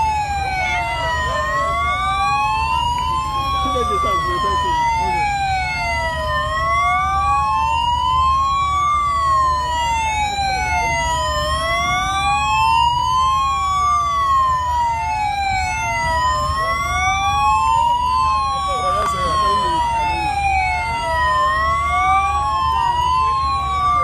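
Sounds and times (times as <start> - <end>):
sirens wailing: 0.0 - 24.0.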